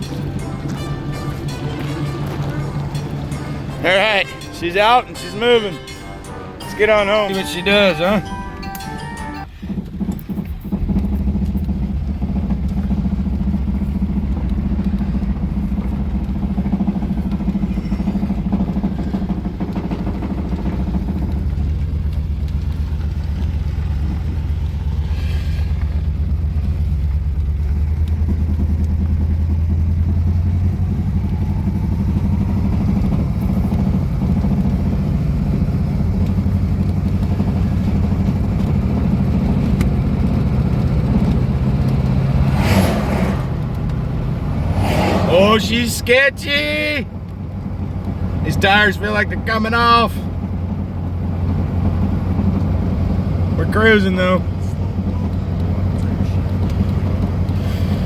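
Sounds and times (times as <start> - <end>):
car engine driving: 0.0 - 58.0.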